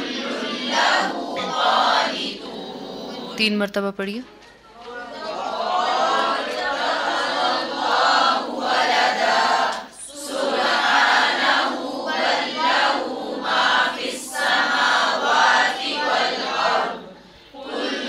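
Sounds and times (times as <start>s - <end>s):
group reciting in unison: 0.0s - 3.4s, 4.9s - 18.0s.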